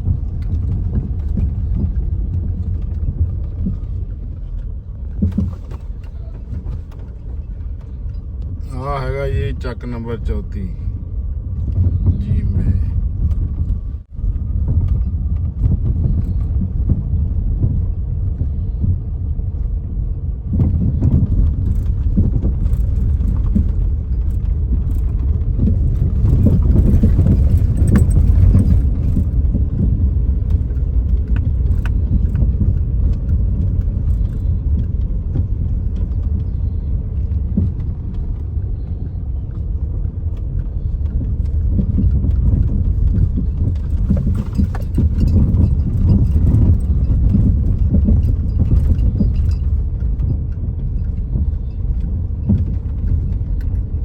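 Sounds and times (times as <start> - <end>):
vehicle rumbling on road: 0.0 - 54.0.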